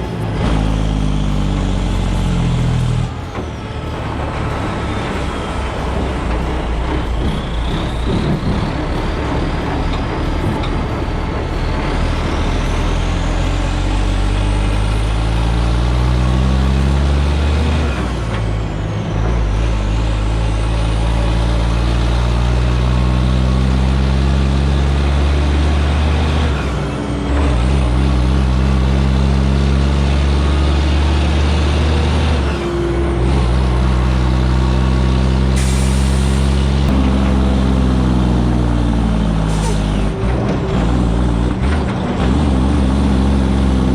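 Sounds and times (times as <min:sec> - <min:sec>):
truck diesel engine shifting gears: 0:00.0 - 0:43.9.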